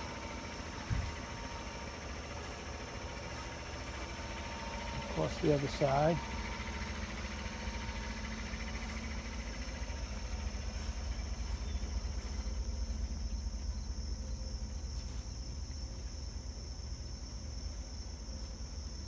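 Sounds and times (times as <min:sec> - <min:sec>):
crickets chirping: 0:00.0 - 0:19.0
pickup engine idling: 0:00.0 - 0:19.0.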